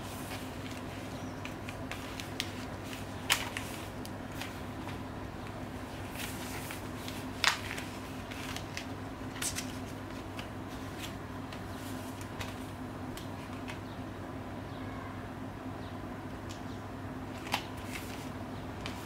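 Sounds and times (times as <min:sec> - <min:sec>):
paper rustling: 0:00.0 - 0:13.8, 0:17.4 - 0:19.0
steady low hum: 0:00.0 - 0:19.0.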